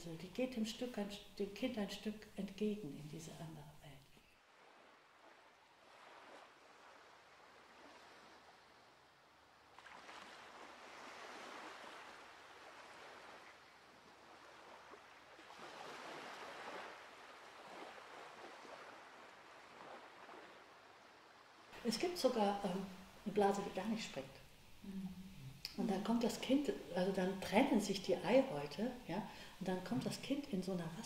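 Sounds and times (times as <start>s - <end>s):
faint sea surf: 4.2s - 30.6s.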